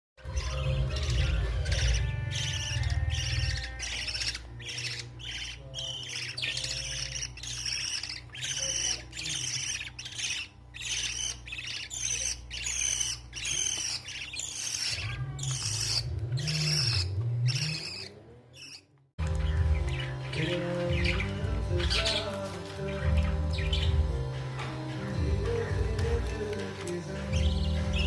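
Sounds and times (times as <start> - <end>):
bird chicks begging calls: 0.2 - 28.0.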